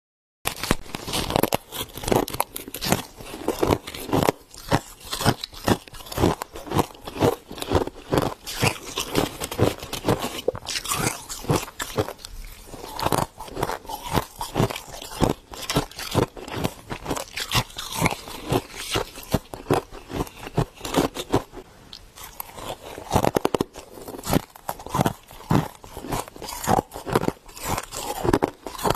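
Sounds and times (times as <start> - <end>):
frost being chewed: 0.5 - 28.9.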